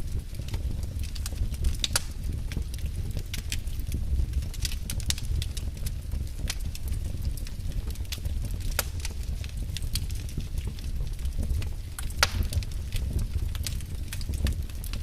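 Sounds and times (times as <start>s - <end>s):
steady low rumble: 0.0s - 15.0s
wood fire crackling and popping: 0.0s - 15.0s.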